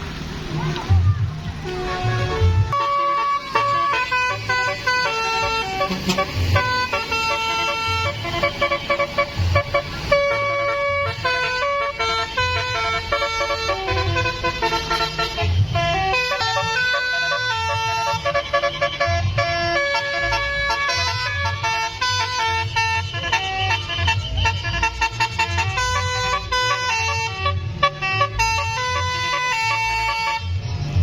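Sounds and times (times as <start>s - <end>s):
musical bus horn tune: 1.6s - 31.0s.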